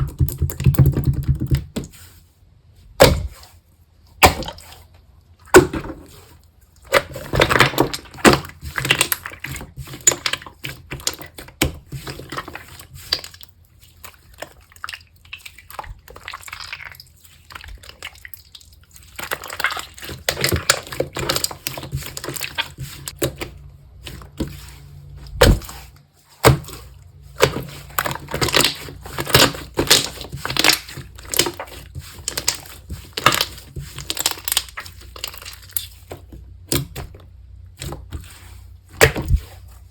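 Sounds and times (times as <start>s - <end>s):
slime squishing crackles: 6.4s - 39.9s.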